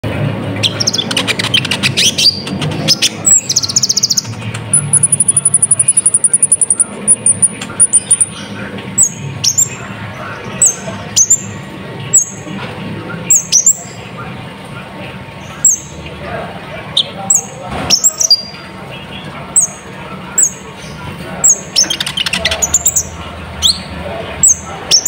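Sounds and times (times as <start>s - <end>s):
sunbird singing: 0.6s - 12.5s, 13.2s - 14.2s, 15.4s - 16.0s, 16.8s - 25.0s.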